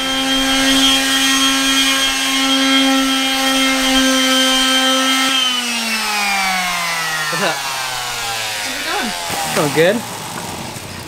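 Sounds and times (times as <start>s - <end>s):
electric sander whining: 0.0s - 11.0s.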